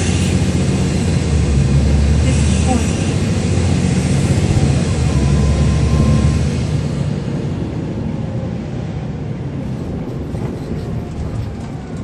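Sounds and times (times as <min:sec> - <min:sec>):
bus diesel engine pulling: 0:00.0 - 0:12.0.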